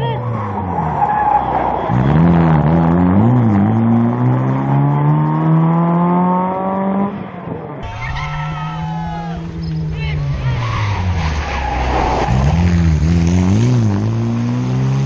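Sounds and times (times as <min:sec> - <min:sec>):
car engine at steady pitch: 0:00.0 - 0:15.0
rally car engine revving: 0:00.0 - 0:15.0.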